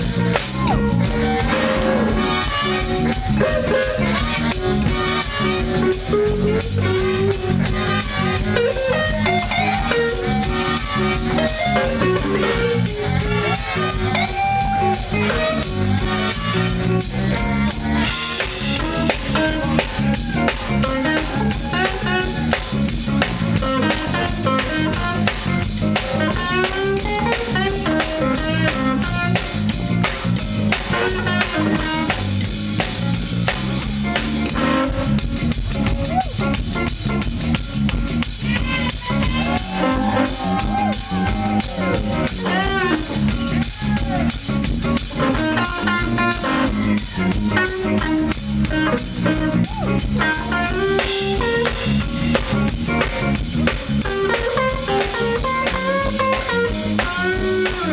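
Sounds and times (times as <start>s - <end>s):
bass guitar: 0.0s - 57.9s
drums: 0.0s - 57.9s
electric guitar lead lines: 0.0s - 57.9s.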